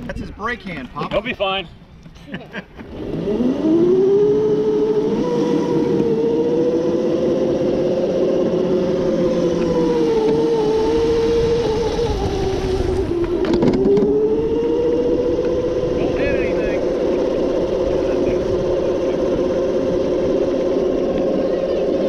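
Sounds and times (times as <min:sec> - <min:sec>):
electric motor whining: 0:02.8 - 0:22.0.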